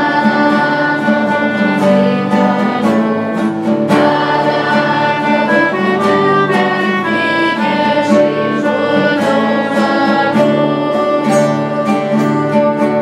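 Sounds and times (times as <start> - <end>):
acoustic guitars strumming: 0.0 - 13.0
clarinet playing held notes: 0.0 - 13.0.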